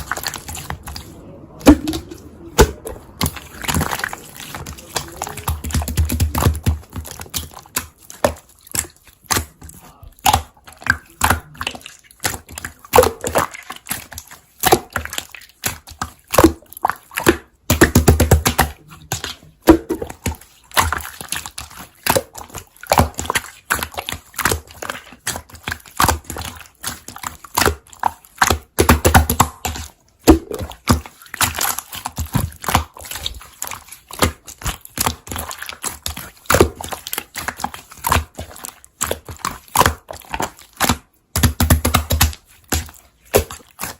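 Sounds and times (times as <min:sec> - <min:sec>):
hands squishing slime: 0:00.0 - 0:43.9.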